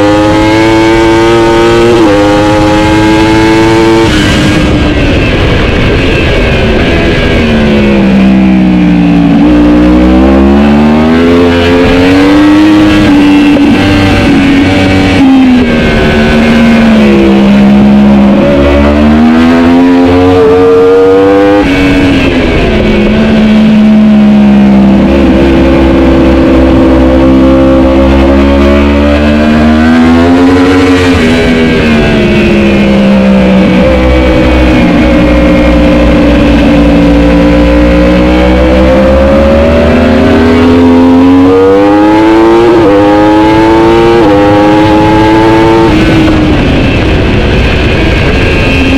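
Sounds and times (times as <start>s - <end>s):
motorbike engine at high revs: 0.0s - 48.9s.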